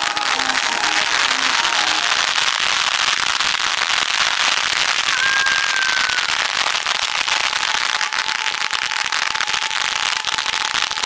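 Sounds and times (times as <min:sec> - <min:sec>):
fountain fireworks crackling hiss: 0:00.0 - 0:11.0.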